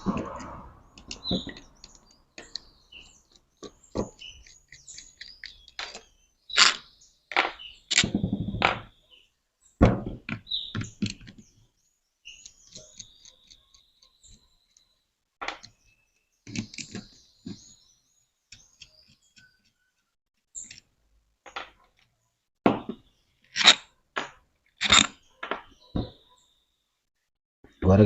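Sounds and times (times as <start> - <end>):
birds chirping: 0.0 - 20.9, 21.6 - 26.8.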